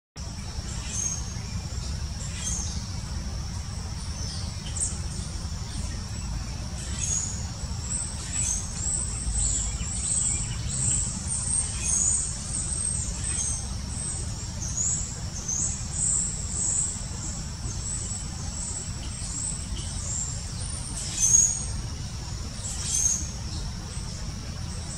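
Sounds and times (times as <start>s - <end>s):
small birds chirping: 0.2s - 24.9s.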